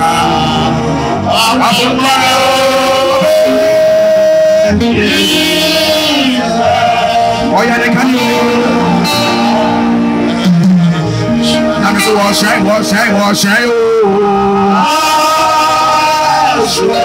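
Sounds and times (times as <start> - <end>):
backing track with guitar: 0.0 - 17.0
man singing into a microphone: 0.0 - 17.0.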